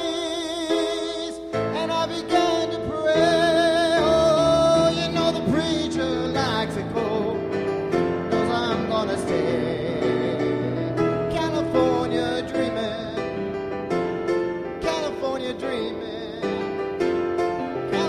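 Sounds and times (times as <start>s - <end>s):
man singing ballad: 0.0s - 13.7s, 14.7s - 17.0s, 17.6s - 18.0s
instrumental backing: 0.0s - 18.0s.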